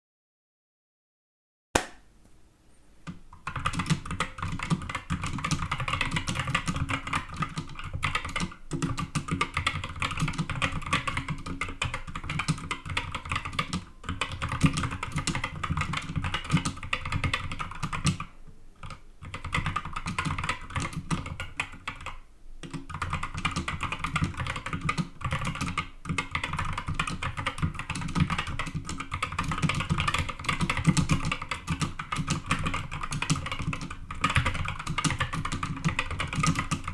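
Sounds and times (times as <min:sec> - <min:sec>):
fast keyboard typing: 0:03.4 - 0:36.9.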